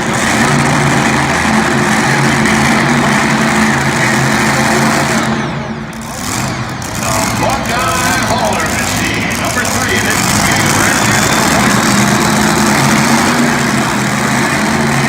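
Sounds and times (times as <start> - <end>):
tractor engine at high revs: 0.0 - 15.0.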